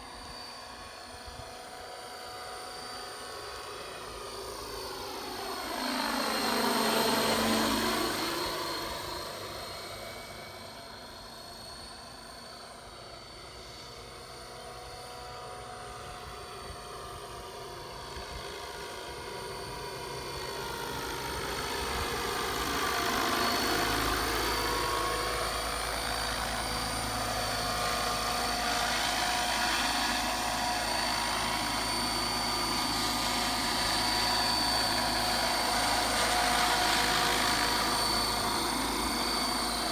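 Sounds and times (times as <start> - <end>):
model helicopter high whine: 0.0 - 39.9.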